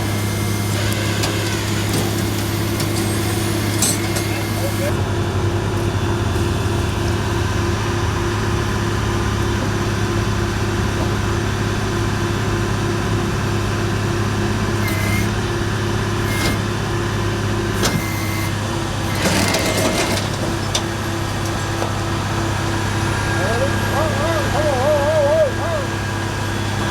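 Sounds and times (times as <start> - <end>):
vehicle engine running: 0.0 - 26.9.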